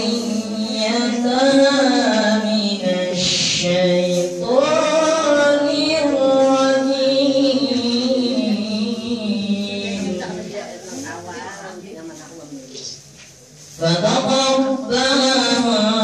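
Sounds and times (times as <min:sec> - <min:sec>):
man chanting into microphone: 0:00.0 - 0:10.6, 0:13.8 - 0:16.0.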